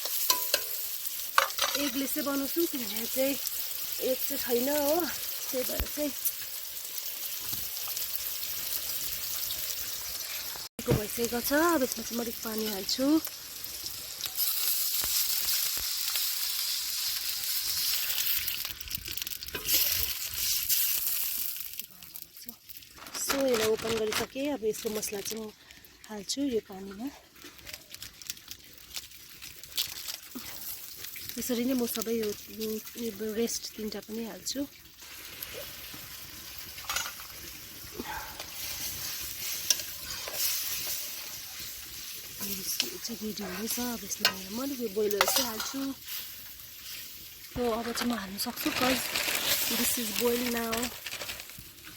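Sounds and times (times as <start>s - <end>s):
food sizzling in hot oil: 0.0s - 51.9s.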